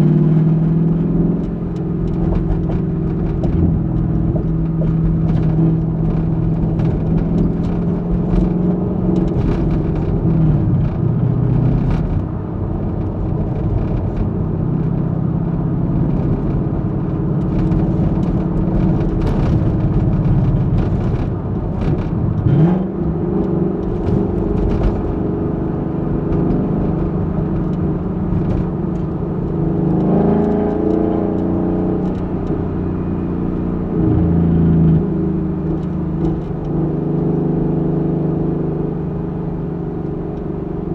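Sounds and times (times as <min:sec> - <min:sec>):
car exhaust rumbling: 0:00.0 - 0:40.9.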